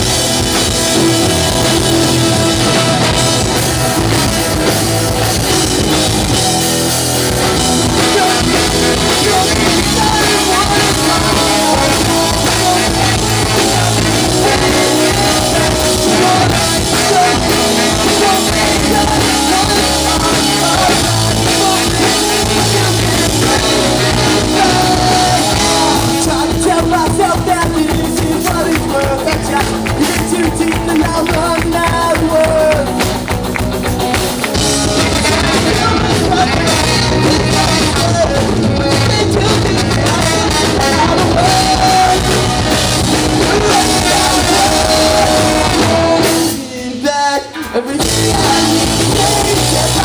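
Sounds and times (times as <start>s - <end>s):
drum kit: 0.0s - 50.0s
punk rock band playing live: 0.0s - 50.0s.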